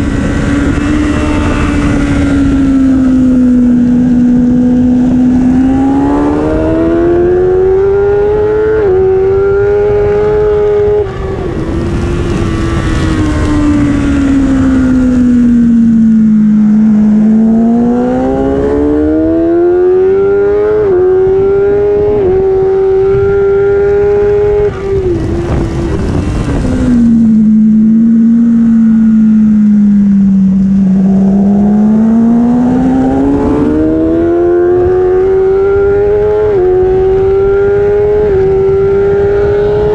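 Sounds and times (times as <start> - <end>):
motorcycle engine revving: 0.0 - 39.9
rushing wind noise: 0.0 - 39.9.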